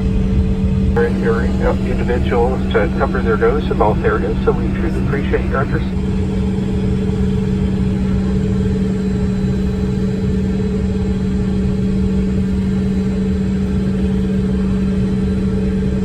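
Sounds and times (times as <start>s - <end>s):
jet cabin drone: 0.0s - 16.0s.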